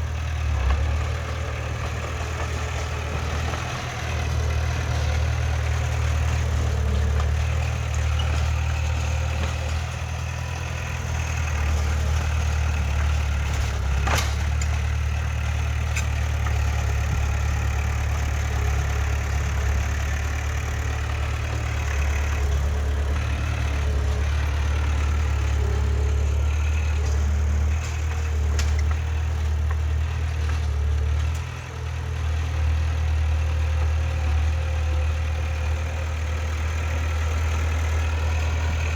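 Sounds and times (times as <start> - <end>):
heavy diesel machinery droning: 0.0 - 38.9.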